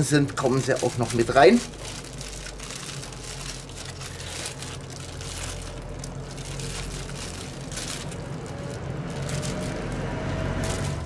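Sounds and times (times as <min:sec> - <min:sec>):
low steady hum: 0:00.0 - 0:11.0
plastic bag crinkling: 0:00.0 - 0:11.0.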